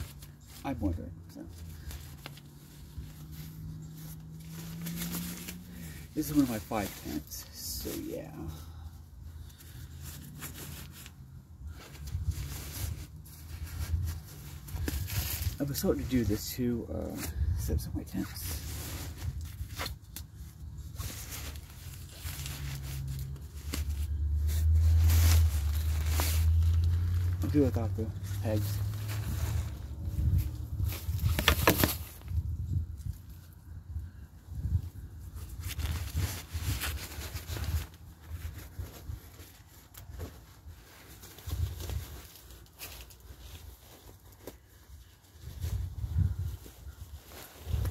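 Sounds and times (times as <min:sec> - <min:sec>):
tent fabric rustling: 0:00.0 - 0:33.6, 0:35.1 - 0:47.9.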